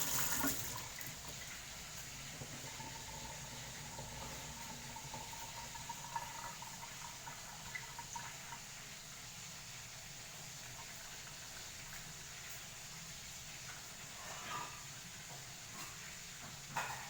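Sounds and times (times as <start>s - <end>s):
watery hiss of water: 0.0s - 16.7s.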